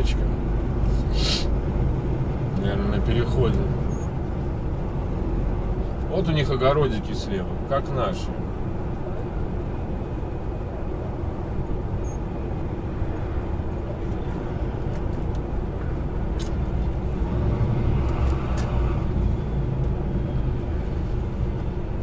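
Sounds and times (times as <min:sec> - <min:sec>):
diesel truck engine: 0:00.0 - 0:22.0
road noise: 0:00.0 - 0:22.0.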